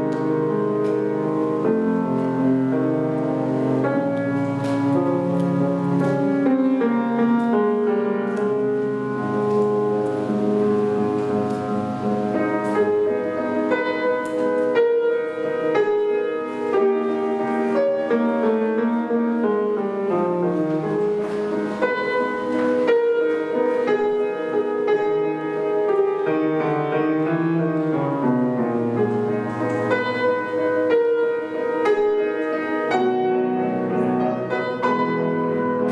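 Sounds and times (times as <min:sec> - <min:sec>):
solo classical piano: 0:00.0 - 0:35.9.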